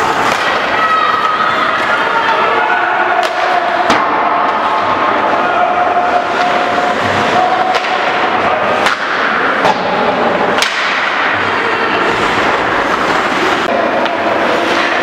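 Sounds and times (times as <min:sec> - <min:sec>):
hockey sticks and puck cracking: 0:00.0 - 0:02.0, 0:03.2 - 0:05.4, 0:06.0 - 0:11.5, 0:12.1 - 0:15.0
rink crowd hubbub: 0:00.0 - 0:15.0.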